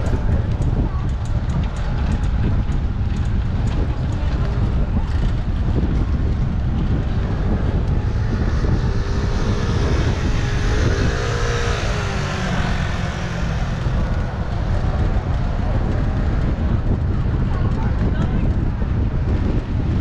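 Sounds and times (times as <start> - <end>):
passing scooter engine: 0.0 - 20.0
wind rumbling on microphone: 0.0 - 20.0.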